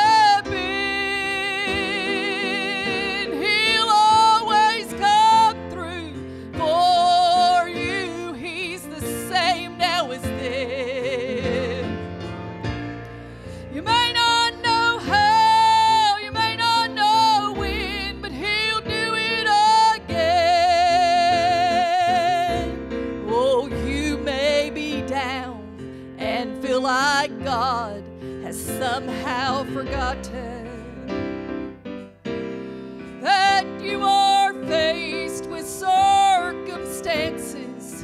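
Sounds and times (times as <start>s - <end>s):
woman singing gospel song: 0.0s - 12.0s, 13.7s - 31.0s, 33.2s - 38.0s
piano accompaniment: 0.0s - 38.0s.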